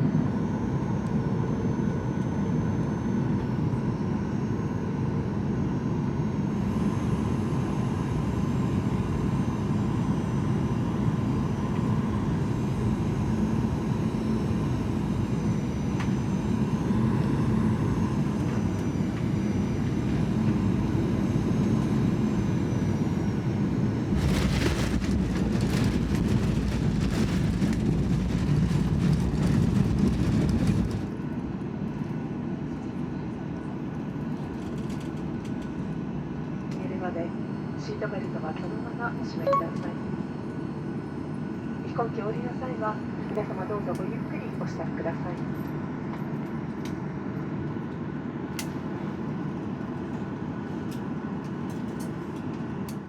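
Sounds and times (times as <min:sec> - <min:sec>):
airliner cabin engine drone: 0:00.0 - 0:53.0.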